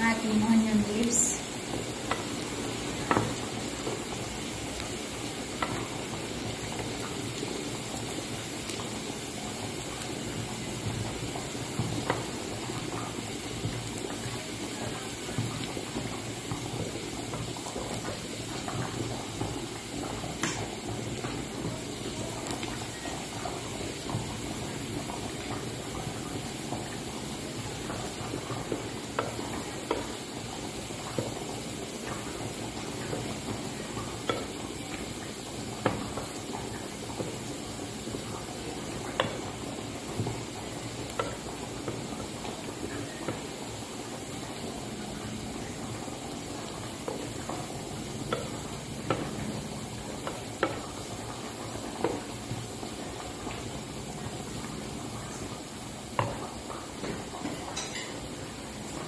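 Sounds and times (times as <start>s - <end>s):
garlic sizzling in hot oil: 0.0s - 59.0s.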